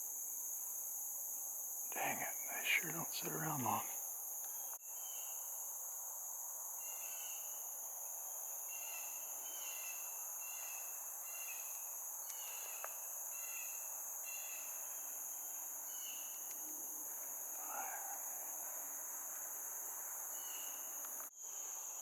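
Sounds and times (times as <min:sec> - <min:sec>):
insect chorus: 0:00.0 - 0:22.0
short cricket chirps: 0:00.0 - 0:22.0.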